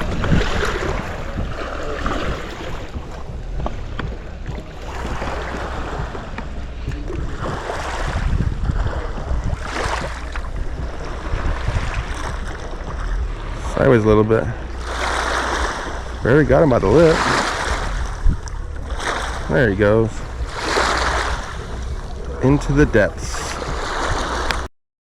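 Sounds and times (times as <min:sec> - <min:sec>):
water lapping at shoreline: 0:00.0 - 0:24.7
wind buffeting microphone: 0:00.0 - 0:24.7.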